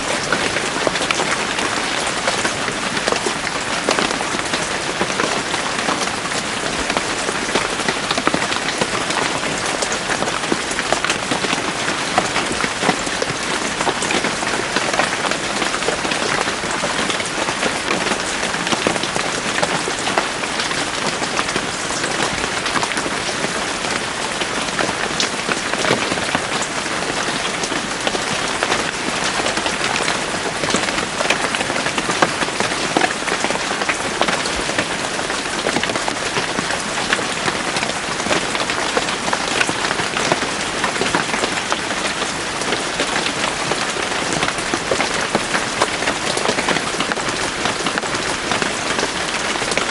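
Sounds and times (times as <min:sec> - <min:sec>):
rain drops pattering on leaves: 0:00.0 - 0:49.9.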